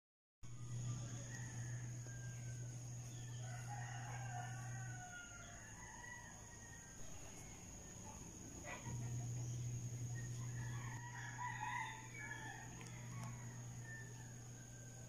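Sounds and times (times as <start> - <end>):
steady low hum: 0.4 - 15.0
distant rooster crowing: 0.5 - 15.0.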